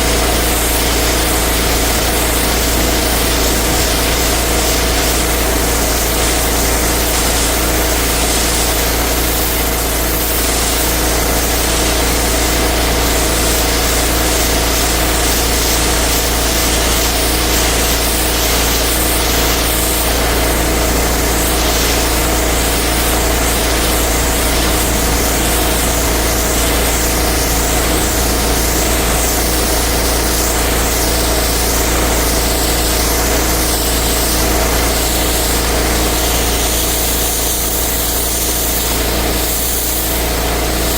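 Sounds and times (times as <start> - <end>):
pressure washer engine running: 0.0 - 40.9
water spray hissing on pavement: 0.0 - 40.9.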